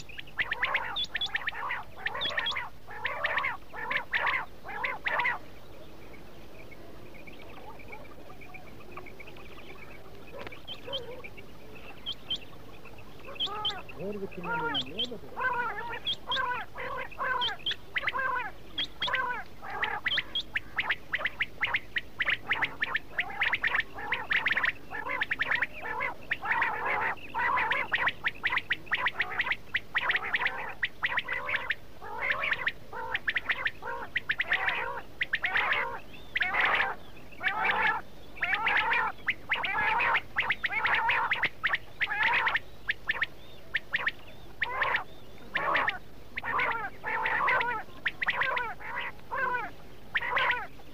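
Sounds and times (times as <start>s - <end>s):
quail chirping calls: 0.0s - 50.9s.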